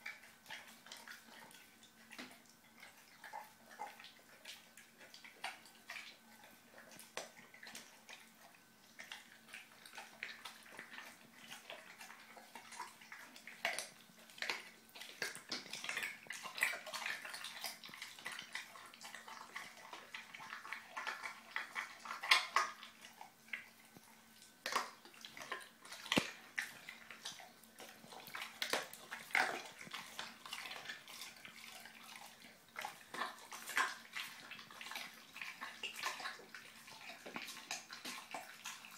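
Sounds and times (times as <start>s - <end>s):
puppy chewing fish: 0.0s - 38.9s.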